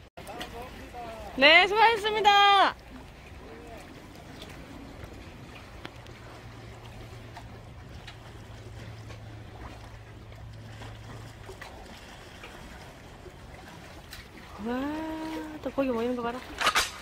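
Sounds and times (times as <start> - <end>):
boat engine humming: 0.0 - 17.0
water lapping: 0.0 - 17.0.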